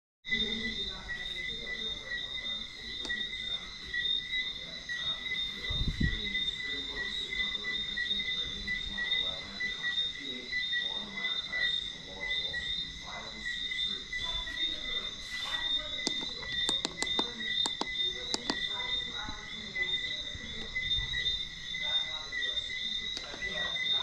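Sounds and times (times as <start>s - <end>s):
crickets chirping: 0.3s - 24.0s.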